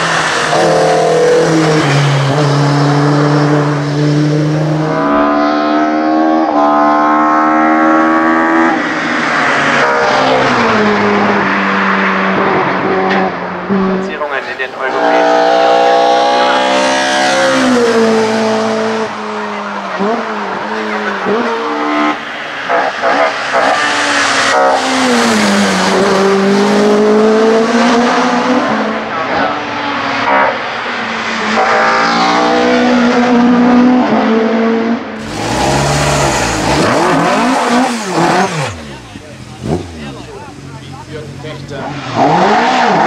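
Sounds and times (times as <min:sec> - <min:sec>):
race car engine at full throttle: 0:00.0 - 0:43.0.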